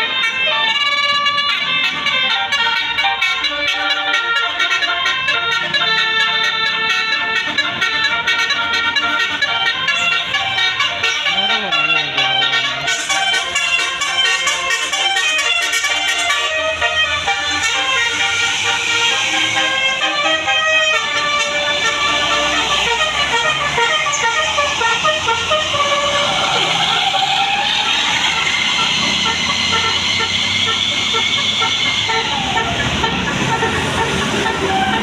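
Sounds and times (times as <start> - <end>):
musical air horn playing melody: 0.0 - 35.0.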